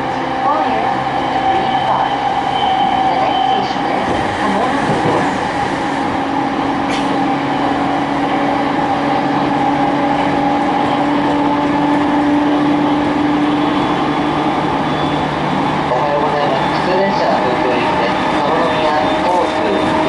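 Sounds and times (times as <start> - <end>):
train motor whine: 0.0 - 20.0
wheels rumbling on rail: 0.0 - 20.0.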